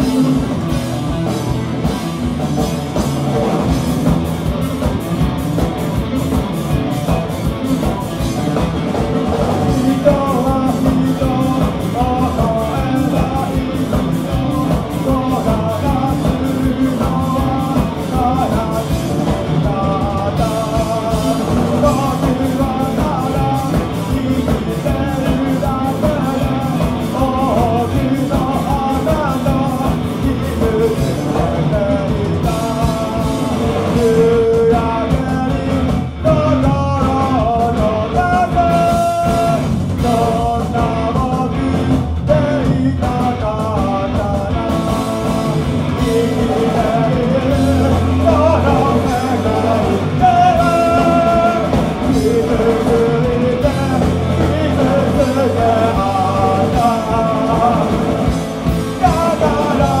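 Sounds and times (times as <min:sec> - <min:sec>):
bass guitar: 0:00.0 - 1:00.0
drums: 0:00.0 - 1:00.0
electric guitar: 0:00.0 - 1:00.0
lead vocals singing: 0:00.0 - 1:00.0.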